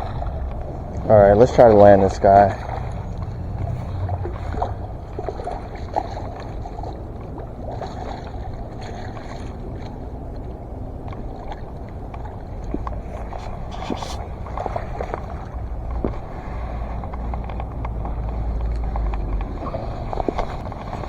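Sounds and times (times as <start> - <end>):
water sloshing at shoreline: 0.0 - 21.0
wind rumble on microphone: 0.0 - 21.0.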